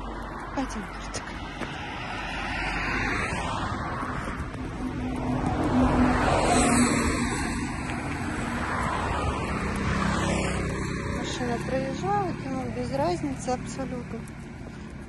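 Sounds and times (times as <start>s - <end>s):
car passing: 0.0s - 15.0s
steady street hum: 0.0s - 15.0s.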